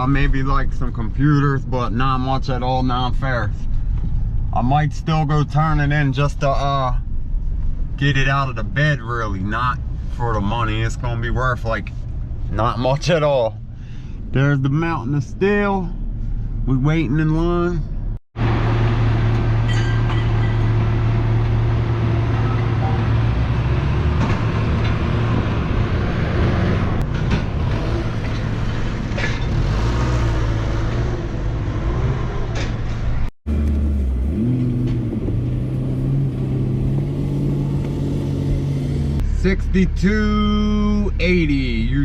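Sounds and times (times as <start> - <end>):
road and yard noise: 0.0 - 42.0.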